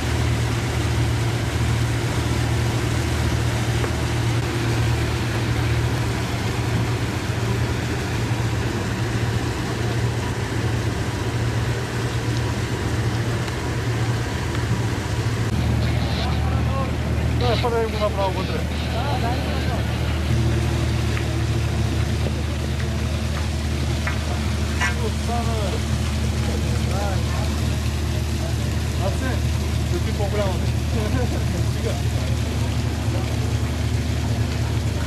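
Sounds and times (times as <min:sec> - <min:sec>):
boat engine humming: 0:00.0 - 0:35.0
water and wind noise: 0:00.0 - 0:35.0.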